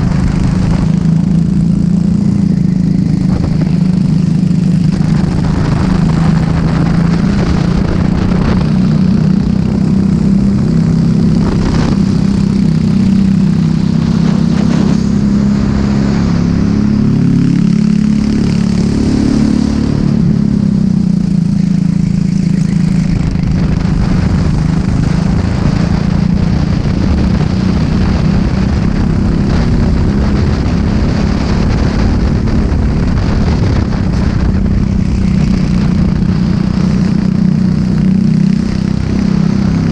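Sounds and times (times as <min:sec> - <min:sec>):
kart engine revving: 0:00.0 - 0:39.9
wind rumble on microphone: 0:00.0 - 0:39.9.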